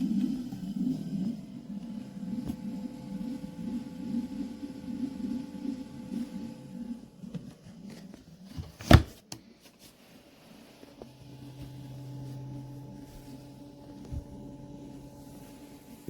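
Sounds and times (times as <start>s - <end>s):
car fridge compressor humming: 0.0s - 9.1s, 11.1s - 16.0s.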